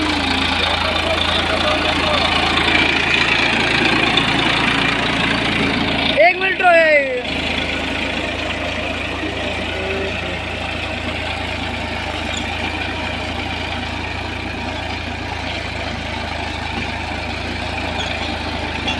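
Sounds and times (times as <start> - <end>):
tractor diesel engine under load: 0.0 - 18.9.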